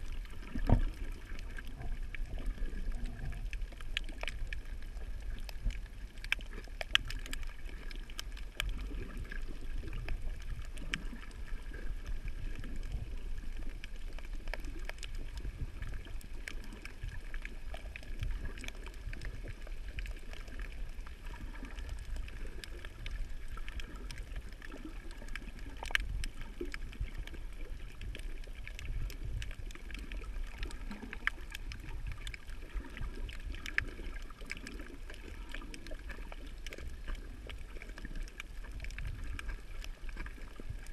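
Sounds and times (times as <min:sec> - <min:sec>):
faint underwater clicks: 0:00.0 - 0:40.9
underwater rumble of water: 0:00.0 - 0:40.9.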